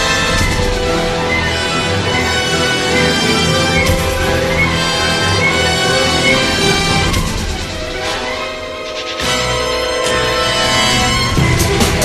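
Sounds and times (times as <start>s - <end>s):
dramatic soundtrack music: 0.0s - 12.0s.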